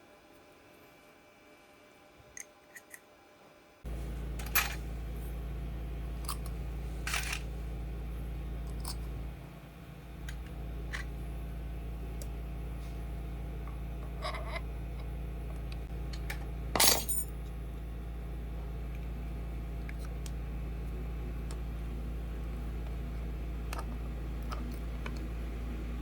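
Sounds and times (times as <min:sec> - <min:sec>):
steady low hum: 0:03.3 - 0:26.0.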